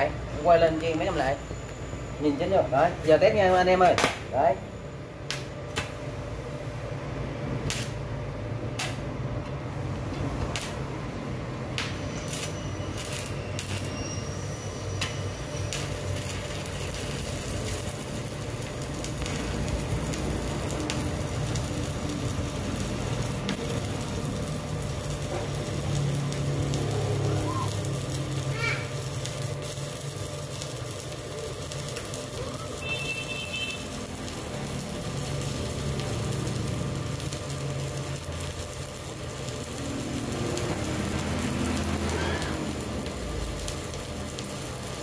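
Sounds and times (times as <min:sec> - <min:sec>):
welding arc crackle and hiss: 0:00.0 - 0:04.6, 0:05.2 - 0:45.0.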